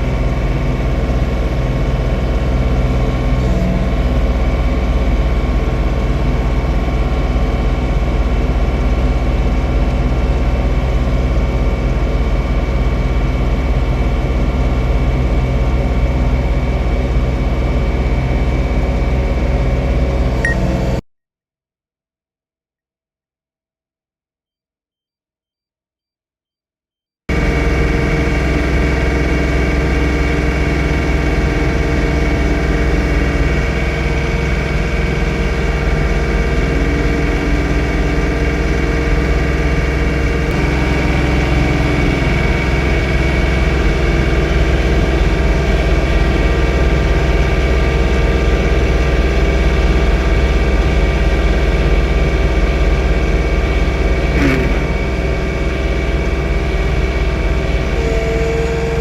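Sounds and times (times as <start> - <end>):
engine whine: 0.0 - 21.0, 27.3 - 59.0
tractor diesel engine running: 0.0 - 21.0, 27.3 - 59.0.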